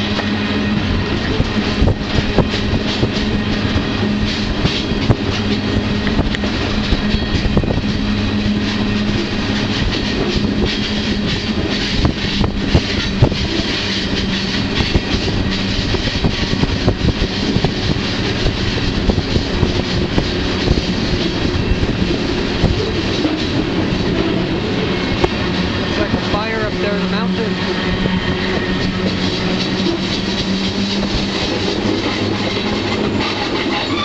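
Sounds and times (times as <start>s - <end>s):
freight train cars rattling: 0.0s - 34.0s
wheels clicking and knocking: 1.2s - 27.2s, 28.0s - 34.0s.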